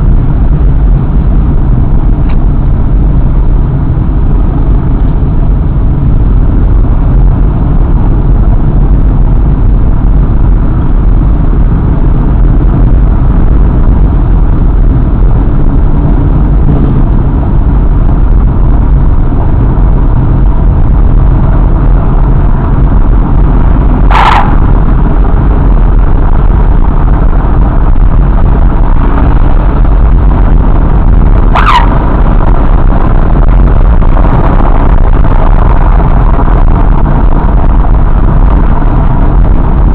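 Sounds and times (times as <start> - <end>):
motorcycle engine rumble: 0.0 - 39.9
wind on microphone: 0.0 - 39.9.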